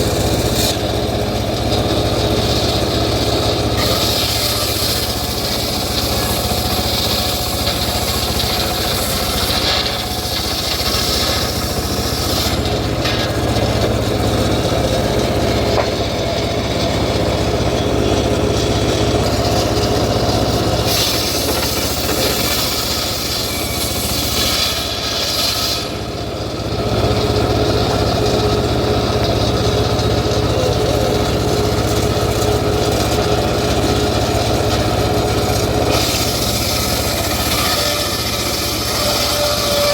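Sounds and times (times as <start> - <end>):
circular sawmill cutting wood: 0.0 - 39.9.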